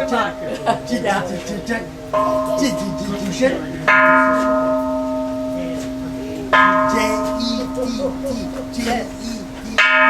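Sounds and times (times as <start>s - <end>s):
temple bell ringing: 0.0s - 10.0s.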